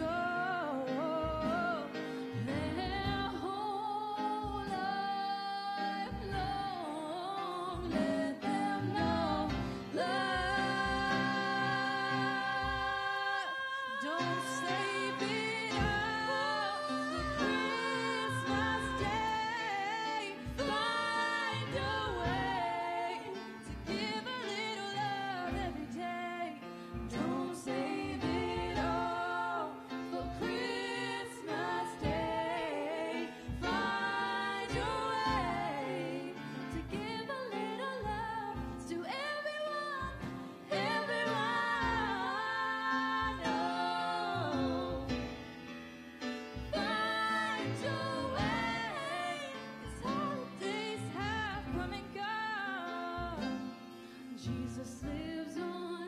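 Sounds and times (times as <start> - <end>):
women singing a duet: 0.0 - 45.8, 46.5 - 56.0.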